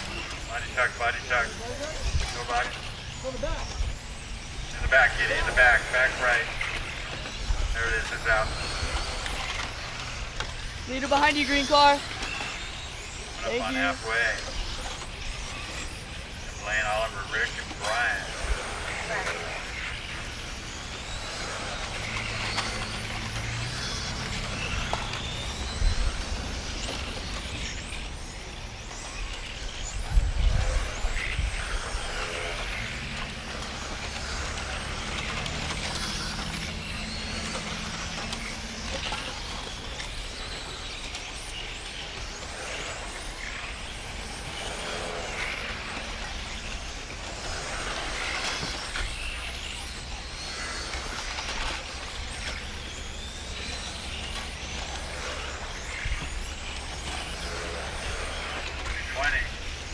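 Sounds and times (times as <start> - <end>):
electric model car motors whining: 0.0 - 59.9.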